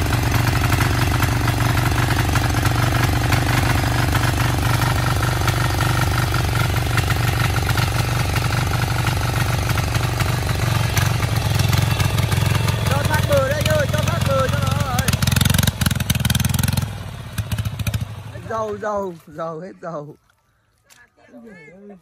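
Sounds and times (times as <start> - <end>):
tiller tines churning mud: 0.0 - 19.5
diesel engine running: 0.0 - 19.6.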